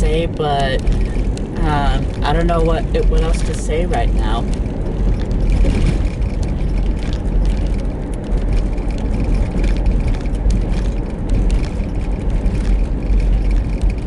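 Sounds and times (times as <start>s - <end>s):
low rumble of road and engine: 0.0s - 14.0s
small clicks and rattles: 0.0s - 14.0s.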